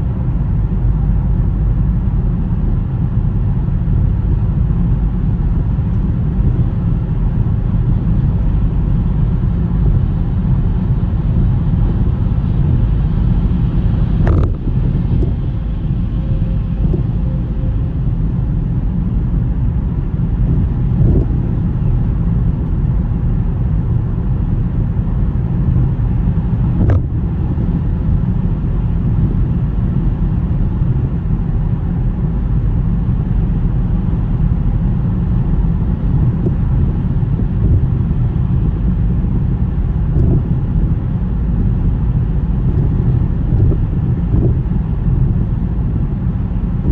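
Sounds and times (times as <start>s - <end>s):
car tyres and engine rumble: 0.0s - 46.9s.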